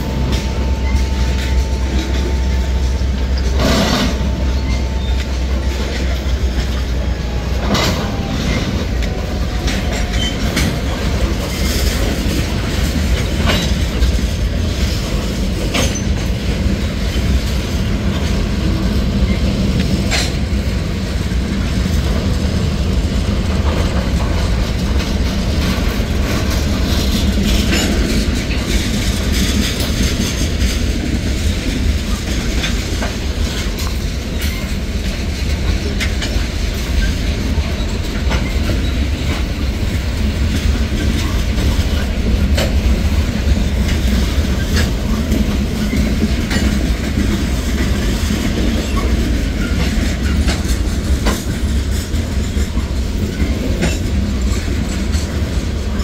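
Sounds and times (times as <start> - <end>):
train rumble: 0.0 - 56.0
train wheels clicking over rail joints: 0.0 - 56.0.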